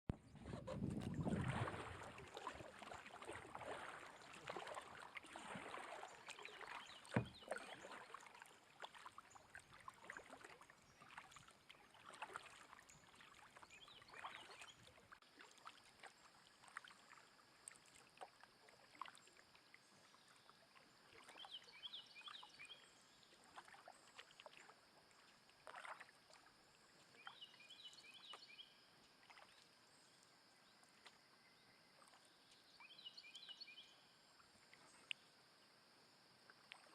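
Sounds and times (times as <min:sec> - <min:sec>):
paddle splashing in water: 0:00.1 - 0:35.4
water trickling off paddle: 0:00.1 - 0:35.6.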